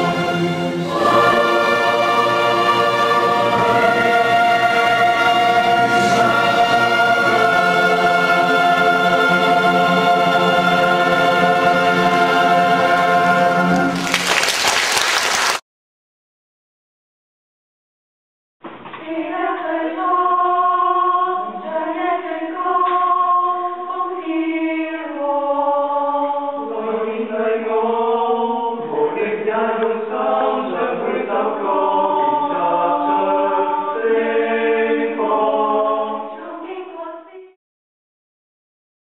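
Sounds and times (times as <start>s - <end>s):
choir singing a cappella: 0.0s - 14.1s, 19.1s - 37.3s.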